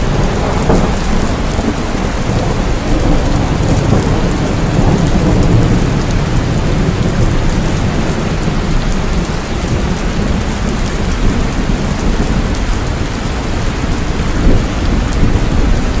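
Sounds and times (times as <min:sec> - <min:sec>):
distant thunder rumble: 0:00.0 - 0:16.0
heavy rain falling: 0:00.0 - 0:16.0.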